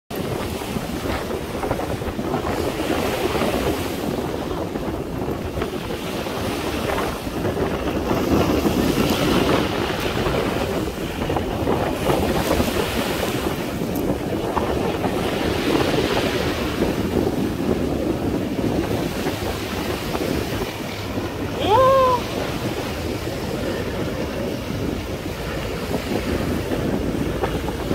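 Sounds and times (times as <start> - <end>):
wind buffeting microphone: 0.1 - 27.9.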